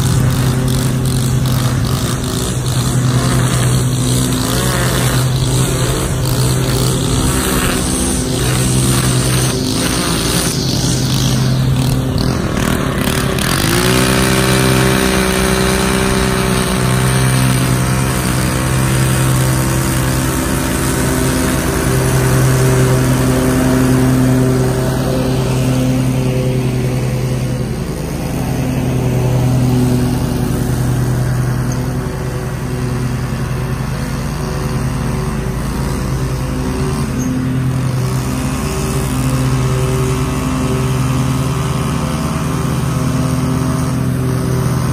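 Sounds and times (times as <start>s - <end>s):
lawn mower engine running: 0.0s - 44.9s
string trimmer engine revving: 0.0s - 44.9s.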